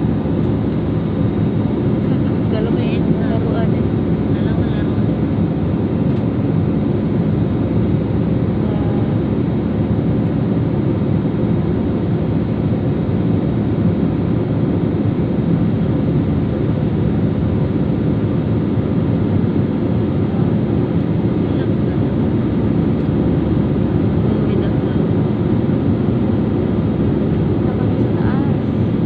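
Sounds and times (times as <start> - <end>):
airliner cabin engine drone: 0.0 - 29.0.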